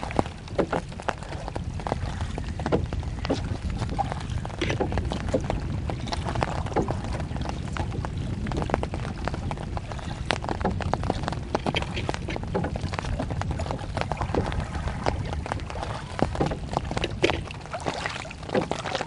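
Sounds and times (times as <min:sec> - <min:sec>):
water lapping against boat hull: 0:00.0 - 0:19.0
wind rumble on microphone: 0:00.0 - 0:19.0.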